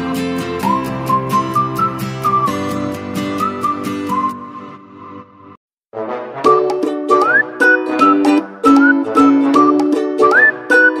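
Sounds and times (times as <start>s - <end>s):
light melody with plucked strings: 0.0s - 4.8s, 6.4s - 11.0s.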